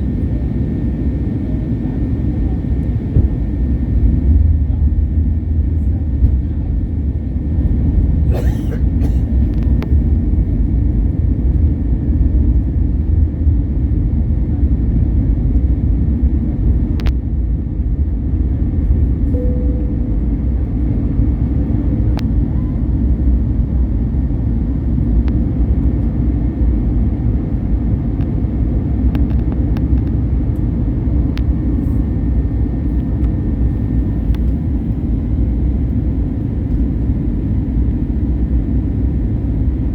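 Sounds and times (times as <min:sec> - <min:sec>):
airliner engines roaring: 0:00.0 - 0:39.9.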